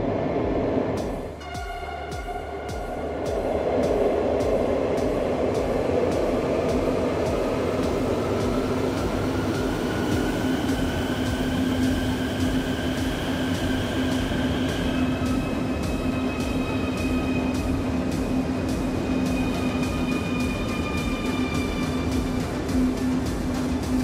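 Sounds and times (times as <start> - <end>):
faint rising whine: 0.0 - 24.0
steady hum: 0.0 - 24.0
train wheels rumbling on rails: 0.0 - 24.0.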